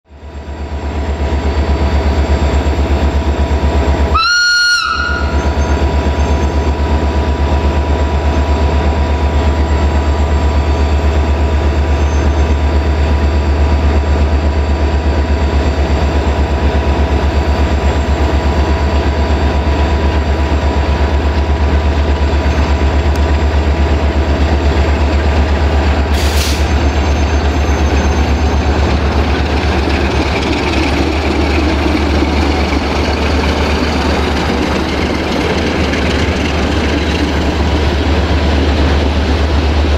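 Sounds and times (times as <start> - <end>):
diesel locomotive idling: 0.1 - 39.9
train wheels on rails: 4.9 - 39.9.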